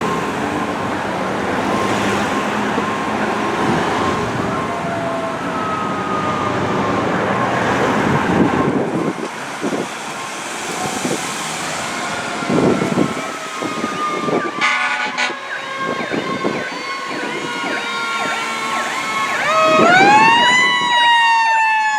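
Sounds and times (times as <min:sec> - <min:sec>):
truck engine: 0:00.0 - 0:20.9
fire engine siren: 0:00.0 - 0:21.9
road noise: 0:00.0 - 0:21.9.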